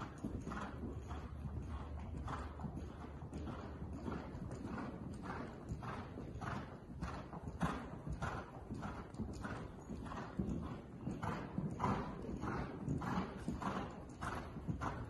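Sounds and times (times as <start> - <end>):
horse hoofbeats on soft dirt: 0.0 - 15.0.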